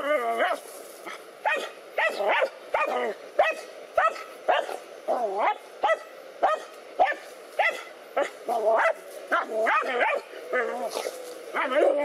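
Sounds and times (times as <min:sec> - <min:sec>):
dogs barking: 0:00.4 - 0:12.0.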